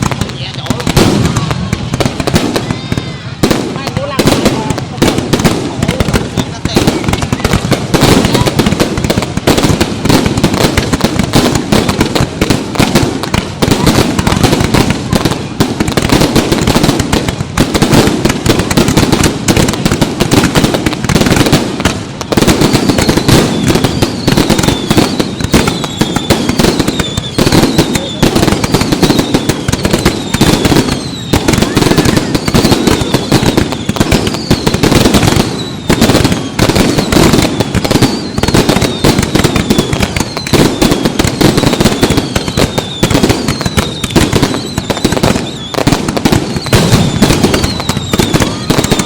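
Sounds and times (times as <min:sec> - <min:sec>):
falling whistles of fireworks: 0:00.0 - 0:49.0
fireworks bangs and crackling: 0:00.0 - 0:49.0.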